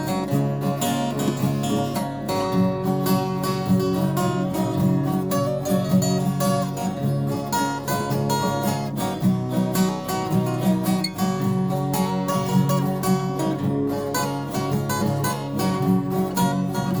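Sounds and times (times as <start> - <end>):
strummed acoustic guitars: 0.0 - 17.0.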